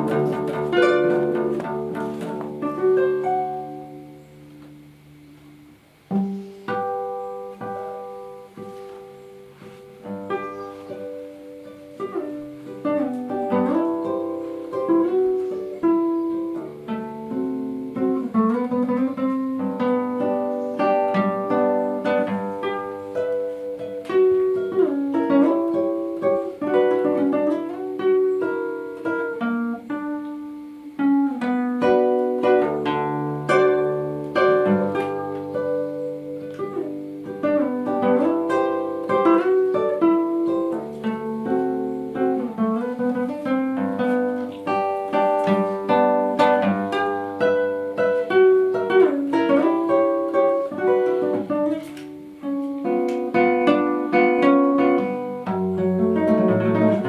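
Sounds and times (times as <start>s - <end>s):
classical guitar tremolo: 0.0s - 57.0s.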